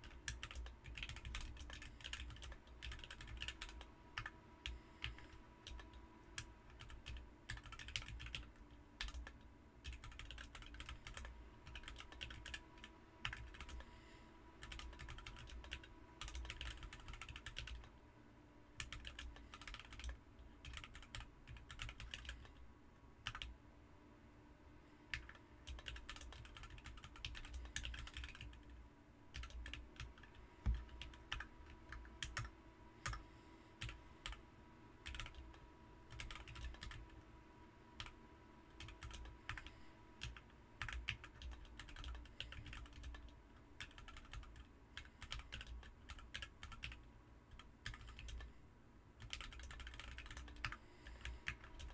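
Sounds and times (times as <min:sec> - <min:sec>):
mechanical keyboard typing: 0:00.0 - 0:13.9, 0:14.6 - 0:17.9, 0:18.8 - 0:22.6, 0:23.2 - 0:23.5, 0:25.1 - 0:33.2, 0:33.8 - 0:34.4, 0:35.0 - 0:37.2, 0:38.8 - 0:48.5, 0:49.2 - 0:51.9.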